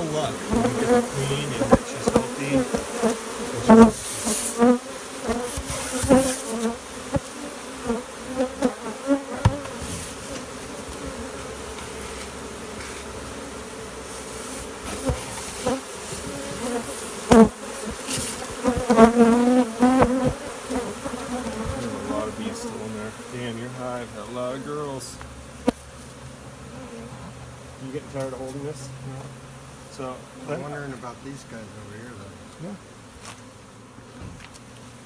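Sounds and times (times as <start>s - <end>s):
bees buzzing: 0.0s - 35.0s.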